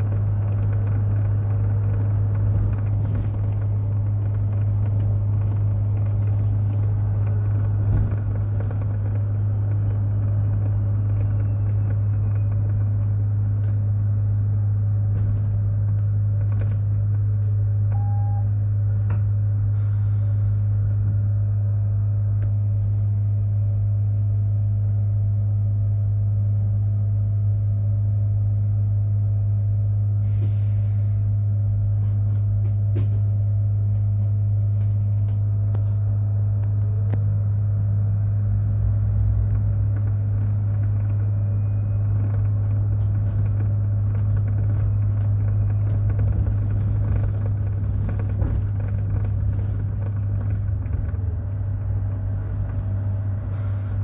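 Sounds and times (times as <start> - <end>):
electric bus humming: 0.0 - 54.0.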